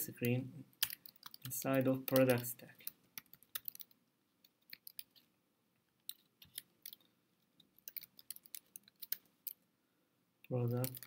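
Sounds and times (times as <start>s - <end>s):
faint keyboard typing: 0.0s - 9.6s, 10.4s - 11.0s.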